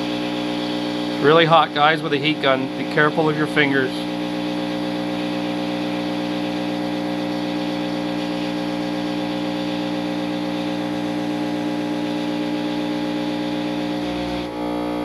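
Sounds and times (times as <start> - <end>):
heat gun fan humming: 0.0 - 15.0.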